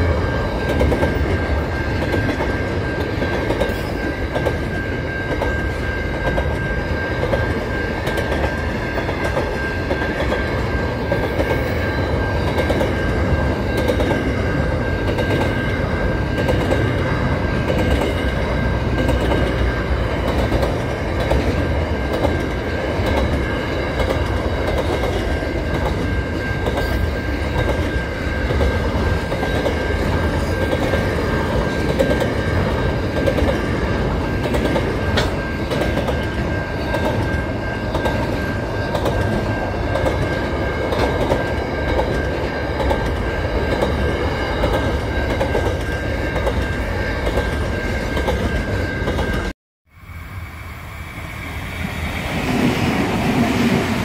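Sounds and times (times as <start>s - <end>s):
freight train rumbling and clattering: 0.0s - 49.6s, 51.2s - 54.0s
steady high tone: 0.0s - 54.0s.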